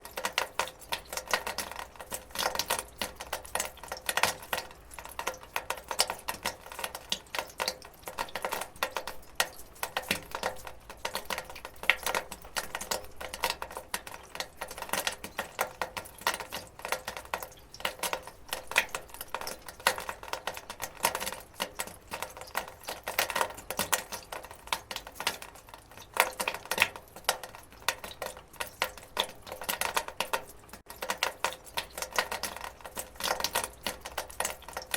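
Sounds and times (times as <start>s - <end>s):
water dripping on metal gutter: 0.0s - 34.9s.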